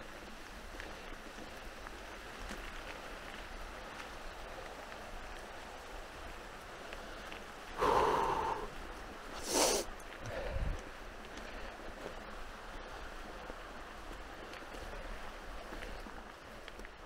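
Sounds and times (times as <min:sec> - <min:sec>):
bike rattles and ticks: 0:00.0 - 0:17.0
bike tyres rolling on trail: 0:00.0 - 0:17.0.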